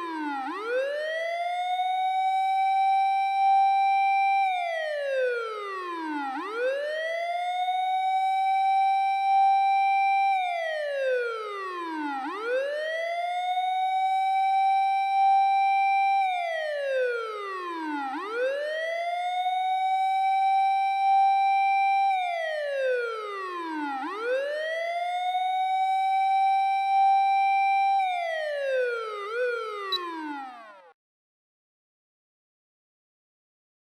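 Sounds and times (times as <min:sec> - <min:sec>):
fire engine siren wailing: 0:00.0 - 0:31.0.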